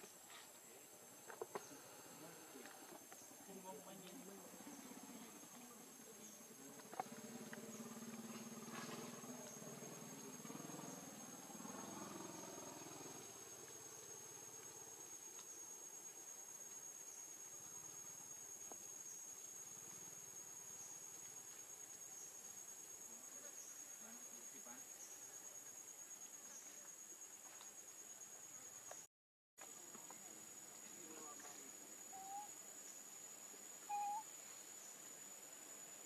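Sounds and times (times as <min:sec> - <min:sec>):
insect drone: 0:00.0 - 0:36.0.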